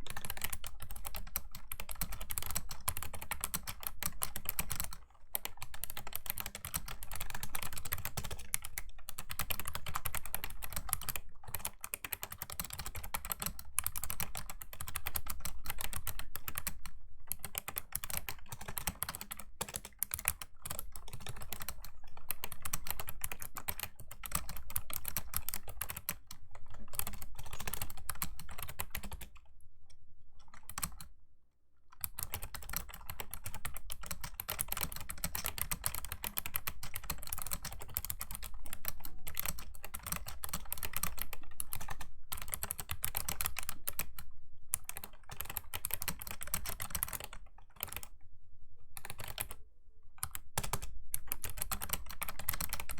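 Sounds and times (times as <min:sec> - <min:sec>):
fast keyboard typing: 0:00.0 - 0:29.4, 0:30.4 - 0:31.1, 0:32.0 - 0:44.2, 0:44.8 - 0:48.1, 0:49.0 - 0:49.6, 0:50.2 - 0:52.9.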